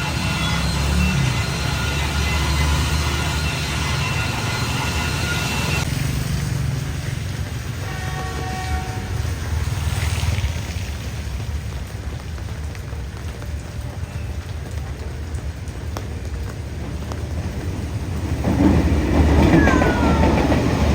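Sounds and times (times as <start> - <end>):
train rumbling past: 0.0 - 20.9.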